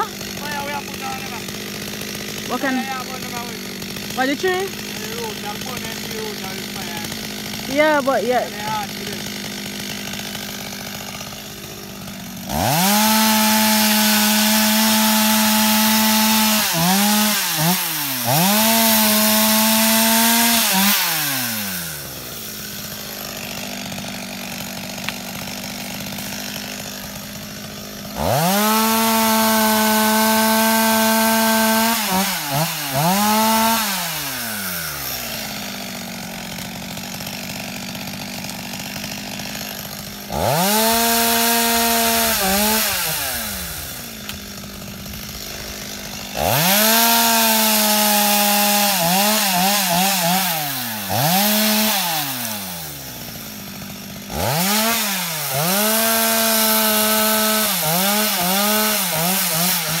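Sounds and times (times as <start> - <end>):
chainsaw revving: 0.0 - 60.0.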